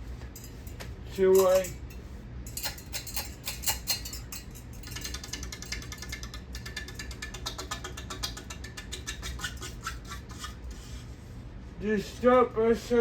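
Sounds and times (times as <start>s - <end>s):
ceiling fan clicking rattle: 0.0s - 11.3s
ceiling fan hum: 0.0s - 13.0s.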